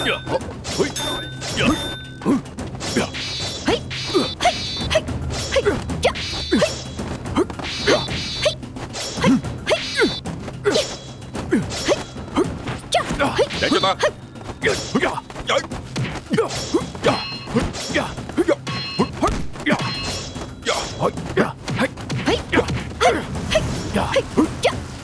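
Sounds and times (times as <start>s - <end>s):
blades clashing and ringing: 0.0s - 25.0s.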